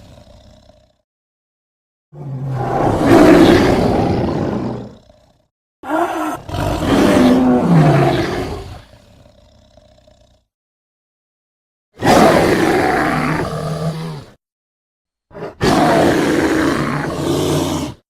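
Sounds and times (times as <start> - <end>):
loud animal roars: 0.0 - 1.0, 2.1 - 10.5, 12.0 - 14.4, 15.3 - 18.0.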